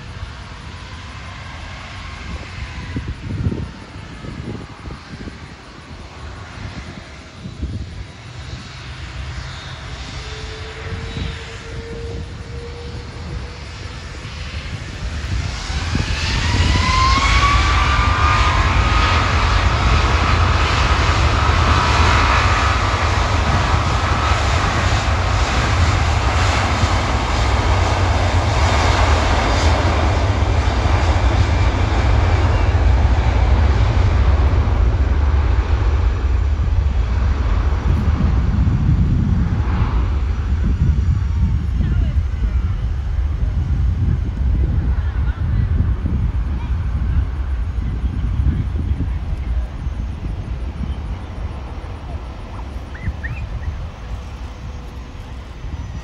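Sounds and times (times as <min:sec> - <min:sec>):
jet engines spooling up: 0:00.0 - 0:56.0.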